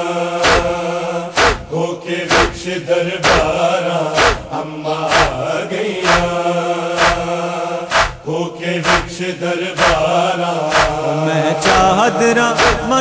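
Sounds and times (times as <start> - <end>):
male voices chanting drone: 0.0 - 13.0
sharp slaps: 0.4 - 13.0.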